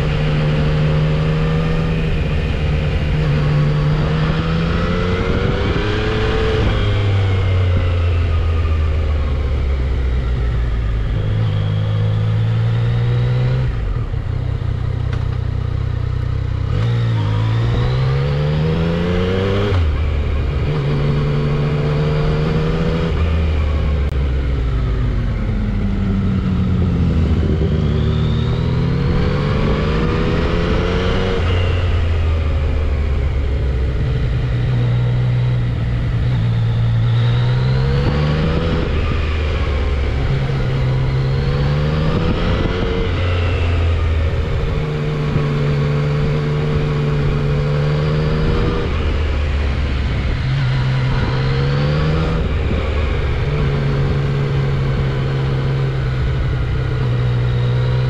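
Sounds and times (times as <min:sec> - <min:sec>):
wind noise: 0:00.0 - 0:14.3, 0:16.7 - 0:58.0
motorcycle engine revving: 0:00.0 - 0:58.0.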